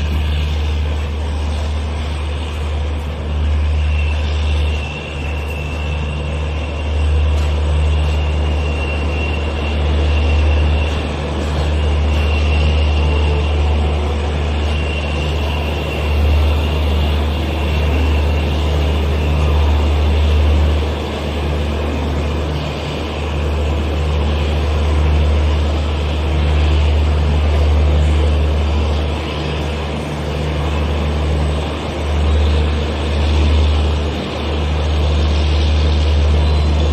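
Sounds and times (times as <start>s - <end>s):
high wheel squeal: 0.0s - 36.9s
train wheels rumbling on rails: 0.0s - 36.9s.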